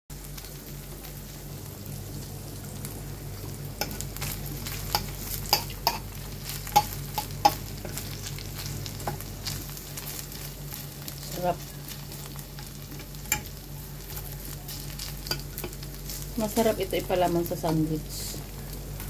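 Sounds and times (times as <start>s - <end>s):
beef sizzling in a pan: 0.1s - 19.0s.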